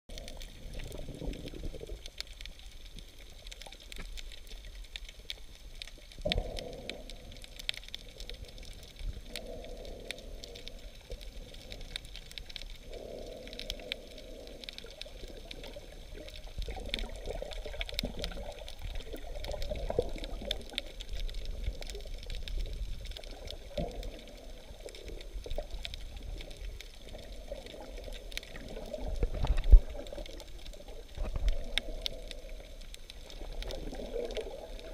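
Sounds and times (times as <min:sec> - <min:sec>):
faint crackling clicks: 0:00.1 - 0:34.9
muffled underwater water sloshing: 0:00.1 - 0:34.9.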